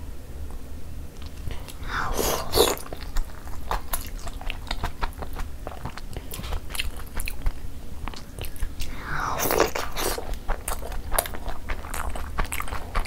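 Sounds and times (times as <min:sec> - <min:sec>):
chewing: 0:01.2 - 0:13.0.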